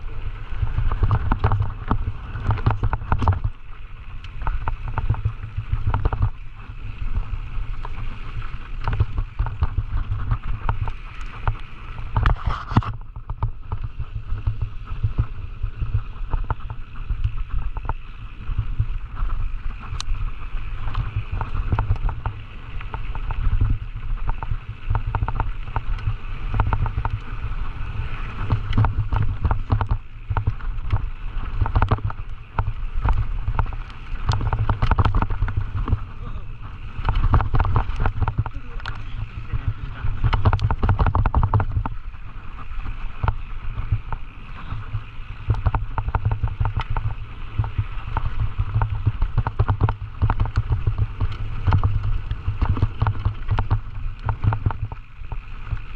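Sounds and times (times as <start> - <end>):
bike clatter on rough trail: 0.0 - 55.9
wind buffeting microphone: 0.0 - 55.9.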